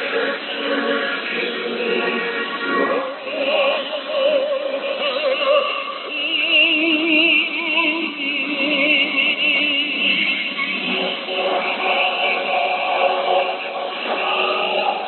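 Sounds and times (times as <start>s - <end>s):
operatic singing over shortwave radio: 0.0s - 15.0s.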